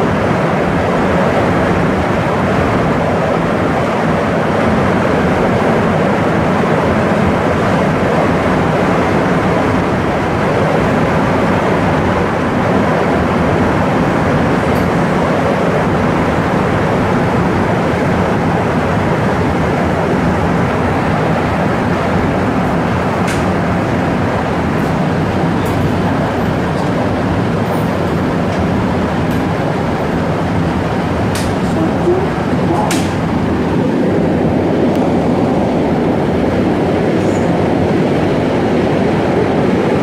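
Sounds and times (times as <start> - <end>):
metro train running: 0.0 - 40.0.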